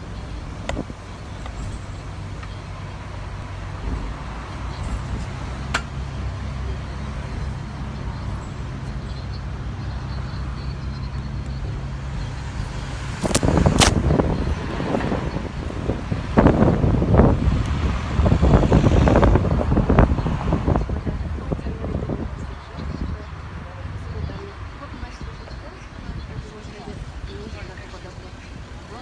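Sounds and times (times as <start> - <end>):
wind buffeting microphone: 0.0 - 8.7, 11.5 - 29.0
bus engine hum and road rumble: 0.0 - 29.0.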